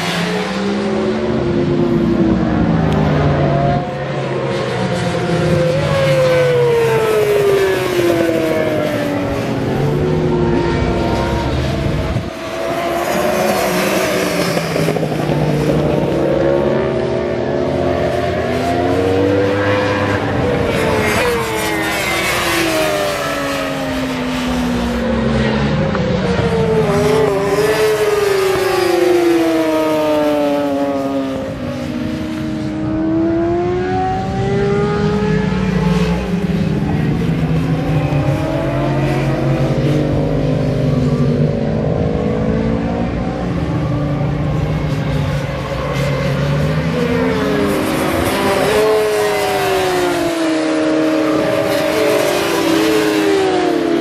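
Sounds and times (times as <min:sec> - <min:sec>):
motorcycles revving and passing: 0:00.0 - 0:54.0.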